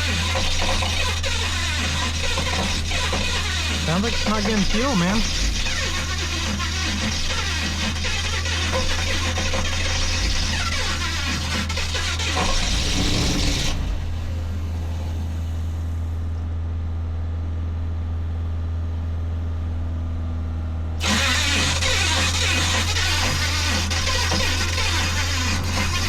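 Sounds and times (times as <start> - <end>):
engine cranking on starter: 0.0 - 16.3, 21.0 - 26.0.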